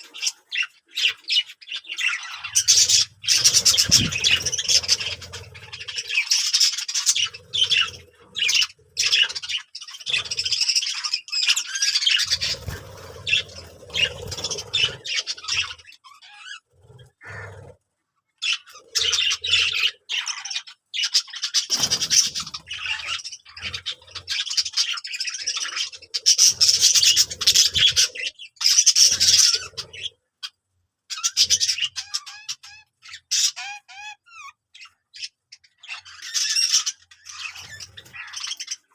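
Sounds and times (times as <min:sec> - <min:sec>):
budgerigars chattering: 0:00.0 - 0:17.7, 0:18.4 - 0:38.9.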